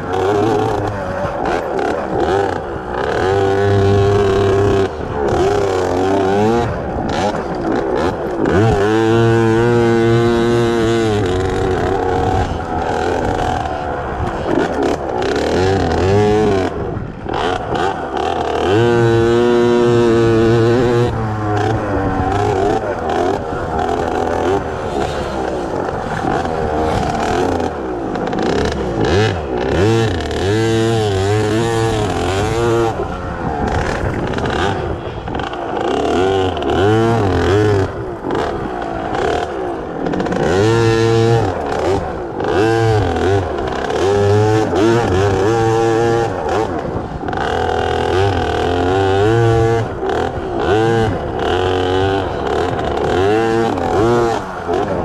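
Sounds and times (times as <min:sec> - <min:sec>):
two-stroke dirt bike engine revving: 0:00.0 - 0:55.0.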